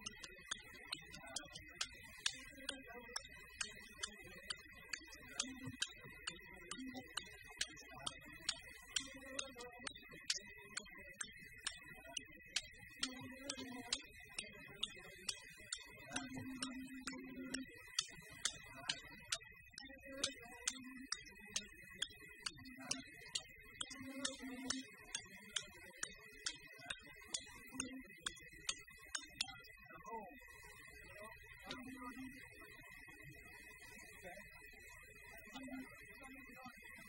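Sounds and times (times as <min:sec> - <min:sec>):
sharp clicks keeping a beat: 0:00.0 - 0:29.7.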